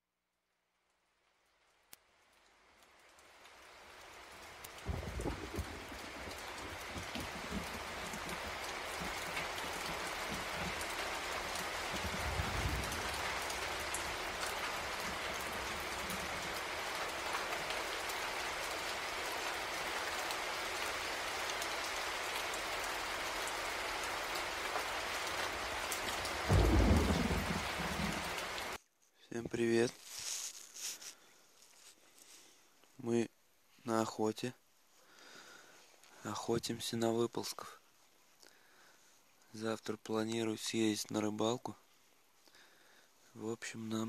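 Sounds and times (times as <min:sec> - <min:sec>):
steady rain falling: 0:00.3 - 0:28.8, 0:29.4 - 0:44.0.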